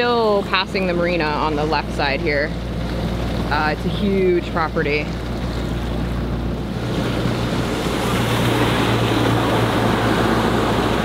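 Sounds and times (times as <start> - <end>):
diesel engine humming: 0.0 - 11.0
water rushing along hull: 0.0 - 11.0.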